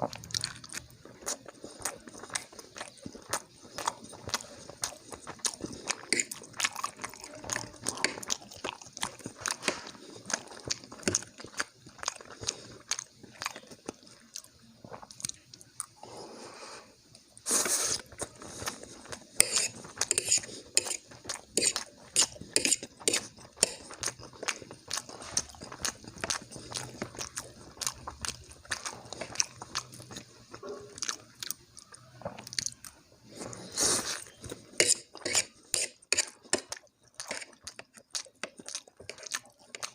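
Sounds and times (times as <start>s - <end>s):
chewing soft food: 0.0s - 16.4s, 17.3s - 39.9s.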